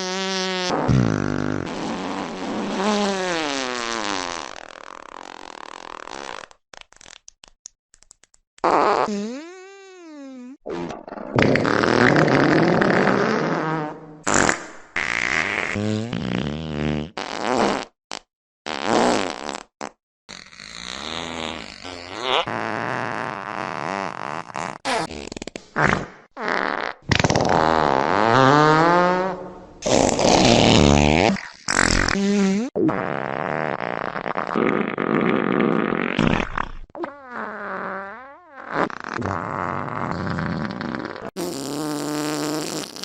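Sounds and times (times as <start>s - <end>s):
farting sounds: 0.0s - 7.4s, 8.6s - 43.0s.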